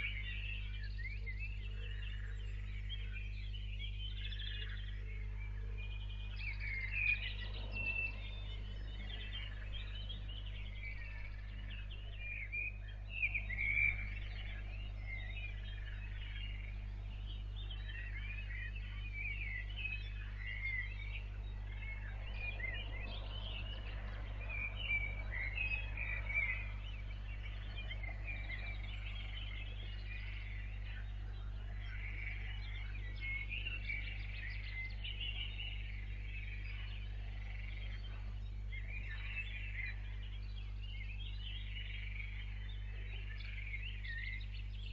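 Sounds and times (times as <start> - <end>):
birds chirping and singing: 0.0 - 44.9
steady low hum: 0.0 - 44.9.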